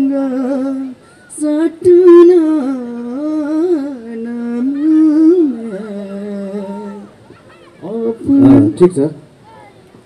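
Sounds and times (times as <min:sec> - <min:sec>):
man singing unaccompanied: 0:00.0 - 0:07.2, 0:07.8 - 0:09.2.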